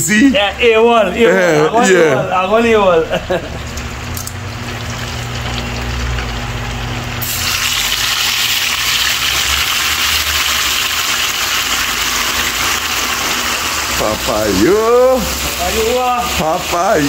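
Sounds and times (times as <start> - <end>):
pork sizzling in a pot: 3.2 - 17.0.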